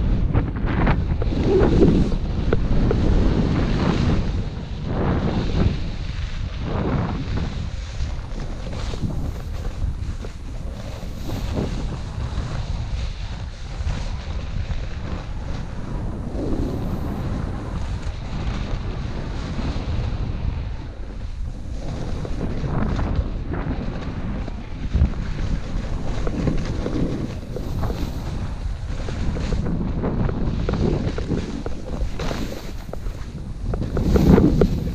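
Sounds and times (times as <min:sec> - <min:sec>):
wind on microphone: 0:00.0 - 0:34.9
snowboard hissing over snow: 0:01.1 - 0:34.9.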